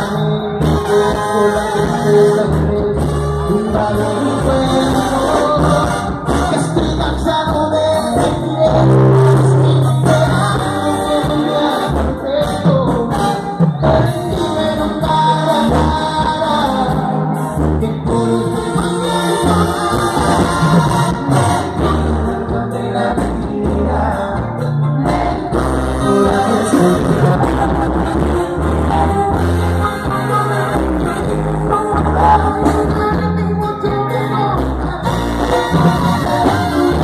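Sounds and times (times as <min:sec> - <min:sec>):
brass band playing: 0:00.0 - 0:37.0
man singing: 0:00.0 - 0:37.0.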